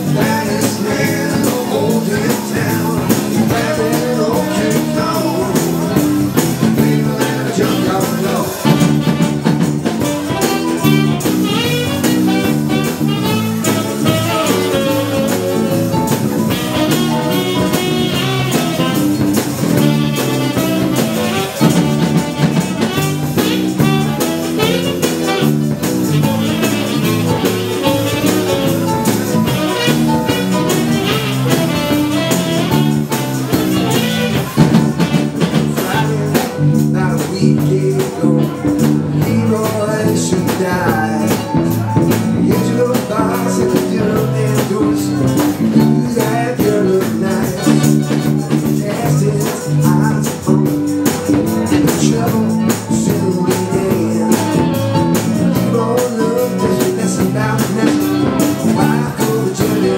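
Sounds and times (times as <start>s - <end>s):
live dance band playing: 0.0s - 59.9s.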